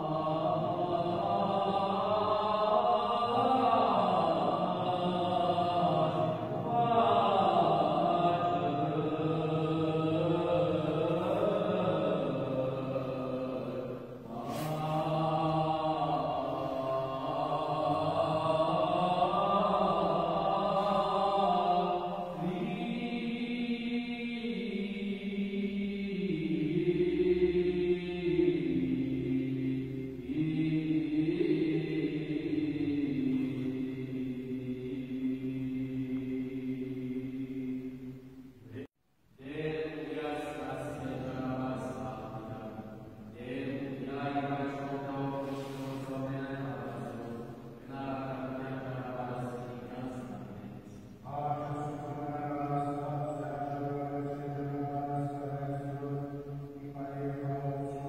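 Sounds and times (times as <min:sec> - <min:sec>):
clergy singing liturgical chant: 0:00.0 - 0:58.0.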